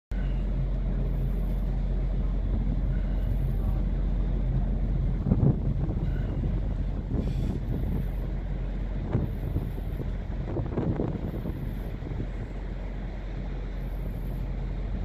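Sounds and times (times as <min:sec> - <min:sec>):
ship machinery rumble: 0:00.1 - 0:15.0
wind buffeting microphone: 0:00.2 - 0:15.0.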